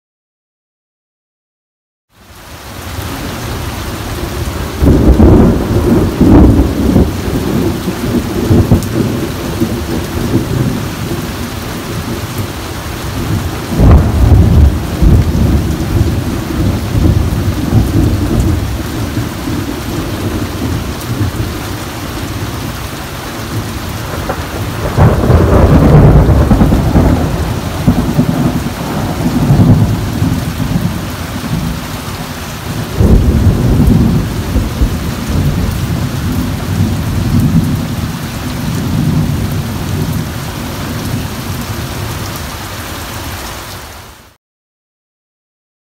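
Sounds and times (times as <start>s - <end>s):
heavy rain falling: 2.1s - 44.4s
thunder rumbling: 3.1s - 42.3s.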